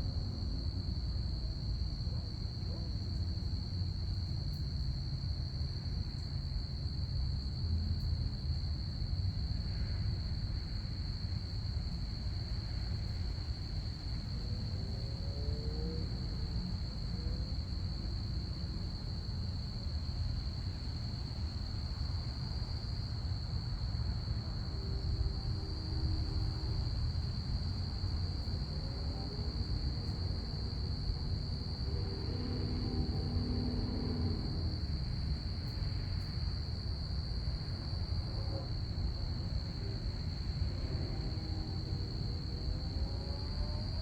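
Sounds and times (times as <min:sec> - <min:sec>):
crickets chirping: 0:00.1 - 0:44.0.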